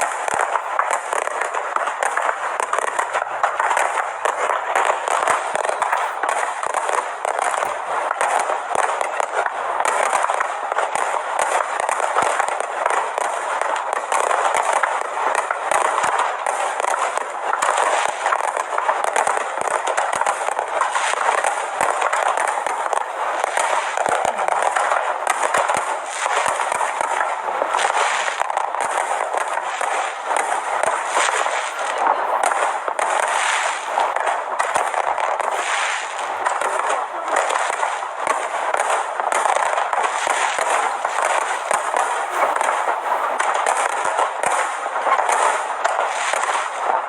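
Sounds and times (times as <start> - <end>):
fireworks crackling and banging: 0.0 - 47.0.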